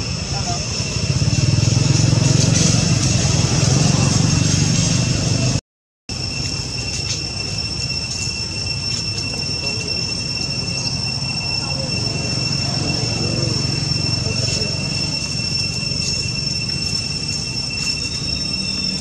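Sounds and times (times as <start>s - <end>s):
high-pitched insect drone: 0.0s - 4.8s, 6.1s - 19.0s.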